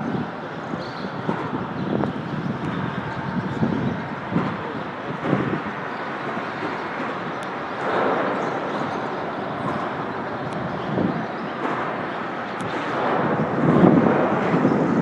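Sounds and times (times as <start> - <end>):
highway traffic rumble: 0.0 - 15.0.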